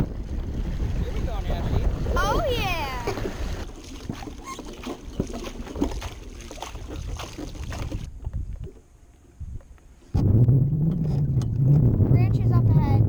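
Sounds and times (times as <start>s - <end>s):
water lapping against a hull: 0.0s - 13.0s
wind on microphone: 0.0s - 13.0s.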